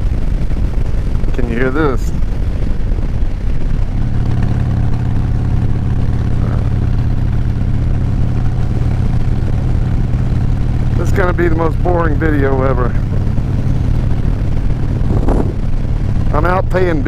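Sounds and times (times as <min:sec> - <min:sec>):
motorcycle engine cruising: 0:00.0 - 0:17.0
rushing air: 0:00.0 - 0:17.0.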